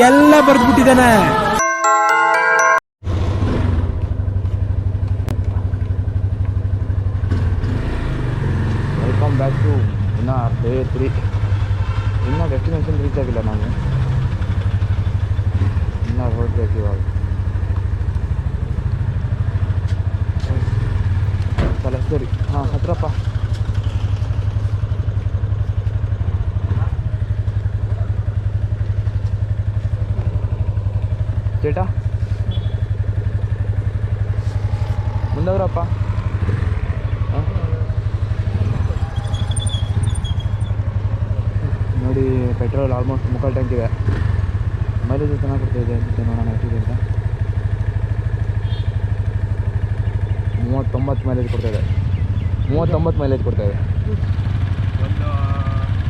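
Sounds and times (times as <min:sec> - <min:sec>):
motorcycle engine idling: 0:03.9 - 0:07.6, 0:09.2 - 0:56.0.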